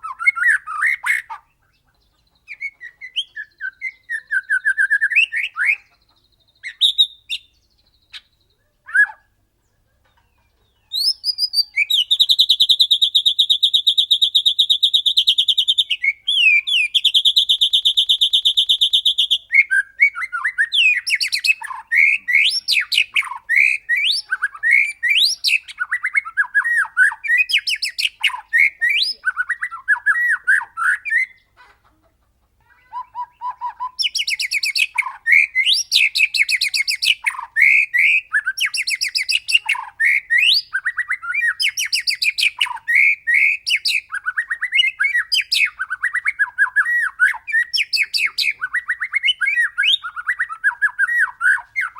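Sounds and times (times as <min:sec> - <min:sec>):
bird singing trills: 0:00.0 - 0:31.6, 0:33.0 - 0:51.9.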